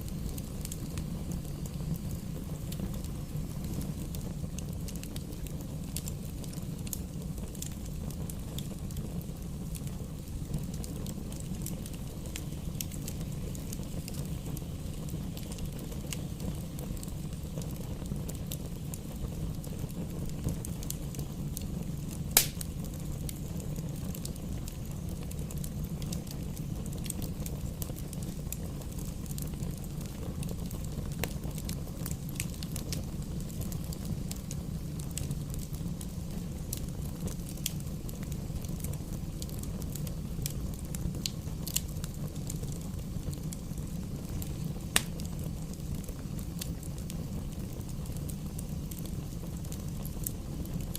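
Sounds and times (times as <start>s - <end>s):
fire crackles and pops: 0.0s - 50.9s
fire flames rumbling: 0.0s - 50.9s.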